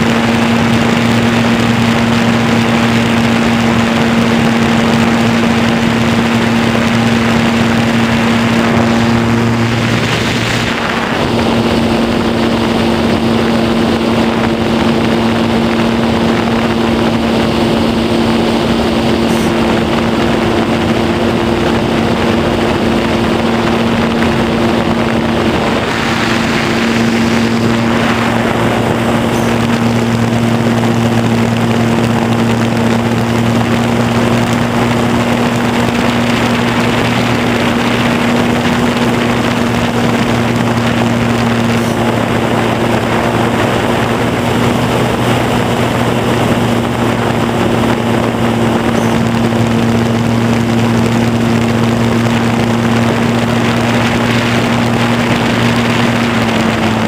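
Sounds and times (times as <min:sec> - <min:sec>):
model airplane motor and propeller: 0:00.0 - 0:57.0
wind rushing: 0:00.0 - 0:57.0.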